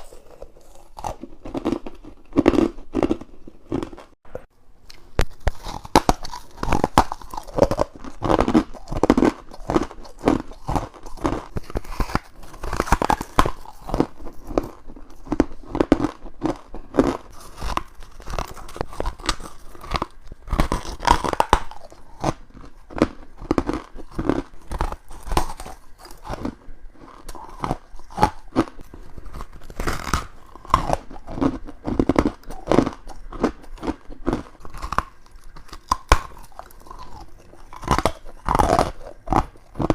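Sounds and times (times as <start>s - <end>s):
crunchy ice chewing: 0.0s - 4.2s, 5.2s - 39.9s.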